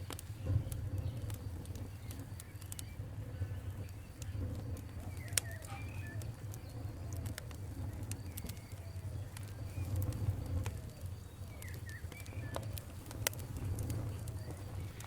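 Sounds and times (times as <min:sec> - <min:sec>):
steady low rumble: 0:00.0 - 0:15.0
wood fire crackling and popping: 0:00.0 - 0:15.0
birds chirping: 0:00.1 - 0:15.0.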